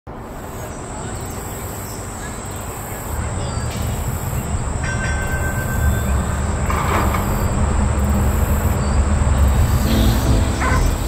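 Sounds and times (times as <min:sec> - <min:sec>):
streetcar running on rails: 0:00.1 - 0:11.0.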